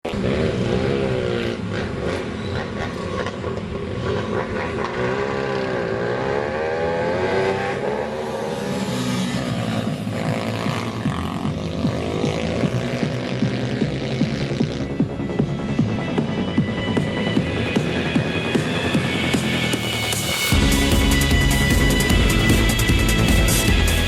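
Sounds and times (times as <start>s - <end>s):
pit bike engines racing: 0.0s - 24.0s.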